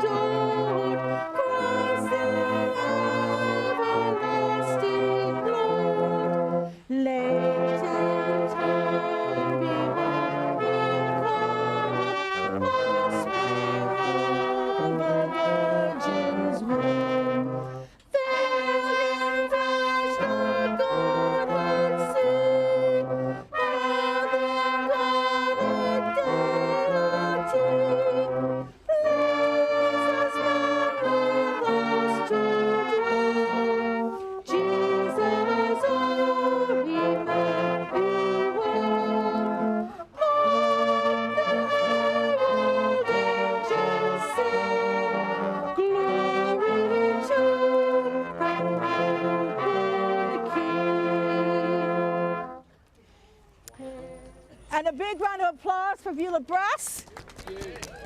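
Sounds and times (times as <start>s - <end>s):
brass band playing carol: 0.0s - 56.8s.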